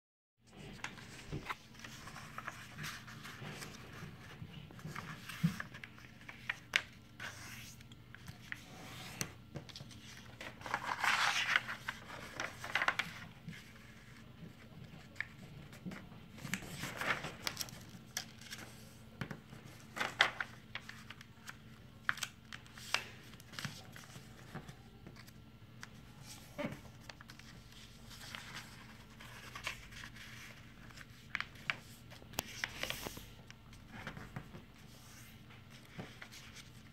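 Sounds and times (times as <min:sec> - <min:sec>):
paper rustling and crinkling: 0:00.5 - 0:36.9.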